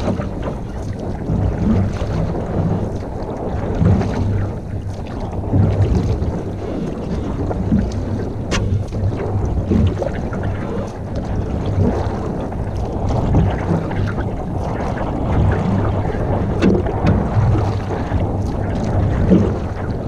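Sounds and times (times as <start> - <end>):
water around canoe: 0.0 - 20.0
wind on microphone: 0.0 - 20.0.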